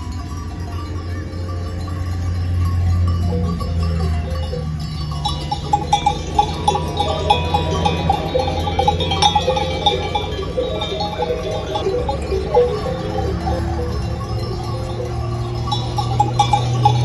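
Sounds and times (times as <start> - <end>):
sheep bells clinking: 0.0 - 17.0.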